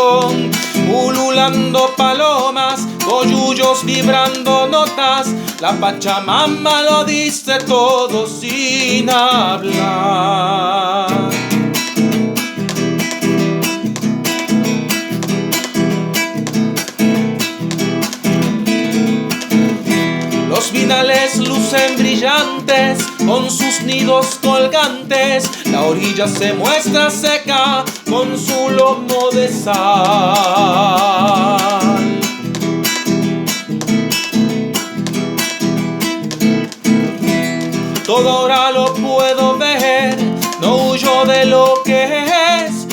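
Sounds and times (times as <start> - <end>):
acoustic guitar strumming chords: 0.0 - 42.9.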